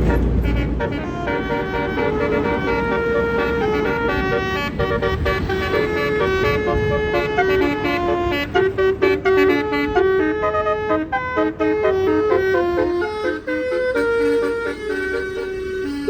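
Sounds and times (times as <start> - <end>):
musical bus horn playing a tune: 0.0 - 16.0
vehicle engines rumbling: 0.0 - 16.0.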